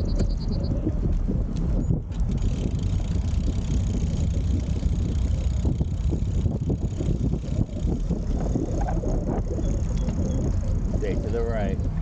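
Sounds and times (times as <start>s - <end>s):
faint ticks from bicycle: 0.0s - 11.4s
wind buffeting microphone: 0.0s - 12.0s.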